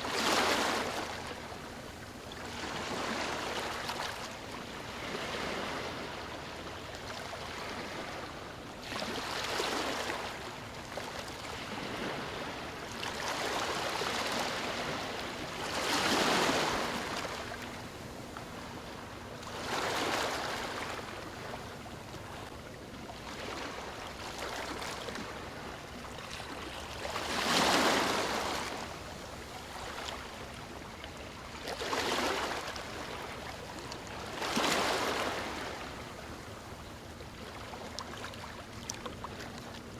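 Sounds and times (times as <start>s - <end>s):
small waves breaking on sand: 0.0s - 1.6s, 2.4s - 21.6s, 23.2s - 36.4s.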